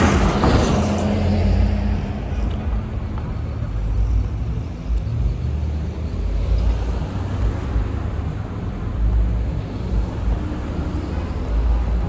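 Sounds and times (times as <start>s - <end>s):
bus engine rumble: 0.0s - 12.0s
street traffic: 0.0s - 12.0s.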